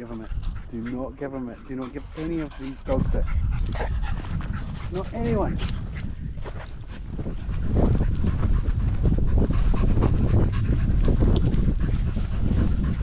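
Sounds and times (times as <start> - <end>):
dogs panting: 0.0 - 13.0
wind rumble on microphone: 0.0 - 13.0.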